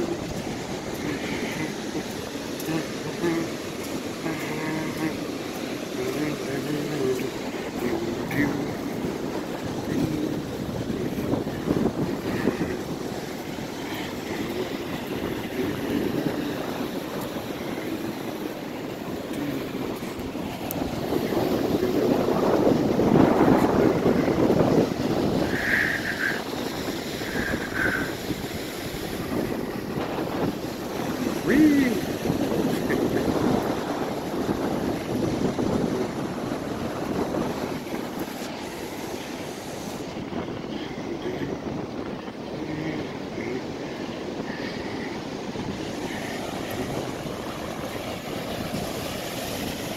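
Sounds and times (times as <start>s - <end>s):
ocean surf breaking: 0.0s - 49.9s
wind buffeting microphone: 0.0s - 49.9s.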